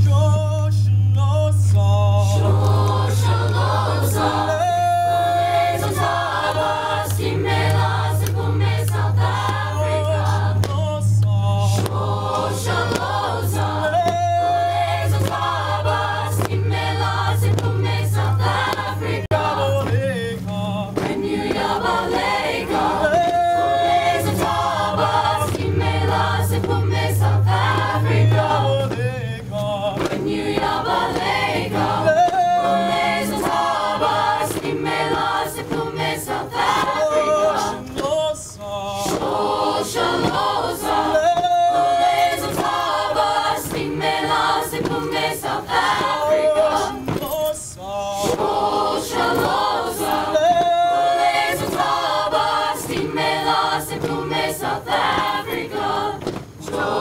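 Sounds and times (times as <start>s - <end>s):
mixed choir singing a cappella: 1.4s - 57.0s.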